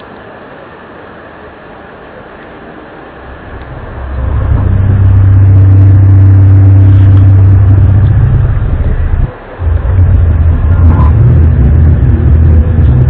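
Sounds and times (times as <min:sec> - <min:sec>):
loud low droning hum: 0:01.5 - 0:13.0.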